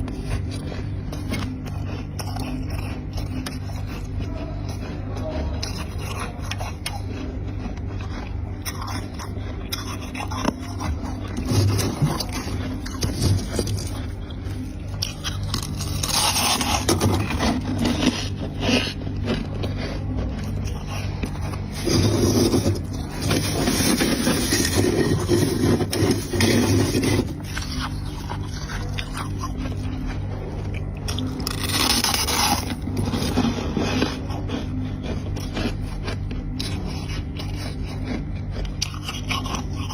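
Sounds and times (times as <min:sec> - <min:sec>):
frost crunching when chewed: 0:00.0 - 0:39.9.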